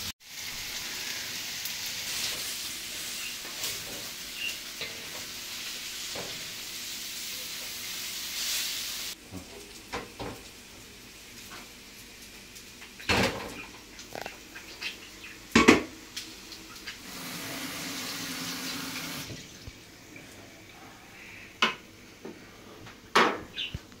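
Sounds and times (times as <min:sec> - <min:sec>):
food sizzling in pan: 0:00.0 - 0:20.1.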